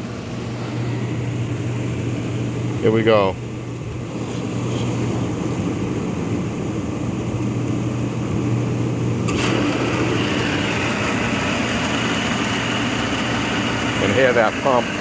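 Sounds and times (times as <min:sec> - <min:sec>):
hot tub pump humming: 0:00.0 - 0:15.0.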